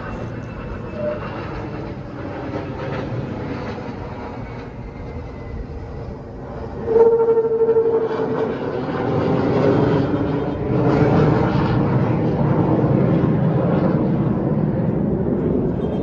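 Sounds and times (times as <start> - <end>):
fighter jet roaring overhead: 0.0 - 16.0.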